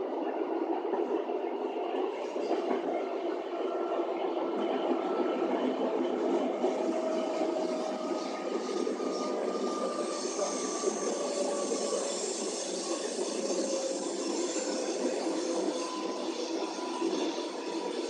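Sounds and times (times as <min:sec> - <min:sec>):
faint whining tones: 0:00.0 - 0:18.0
train wheels rumbling on rails: 0:00.0 - 0:18.0.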